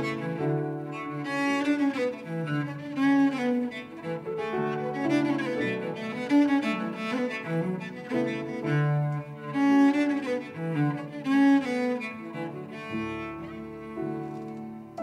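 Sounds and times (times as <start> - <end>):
bowed cello melody: 0.0 - 15.0.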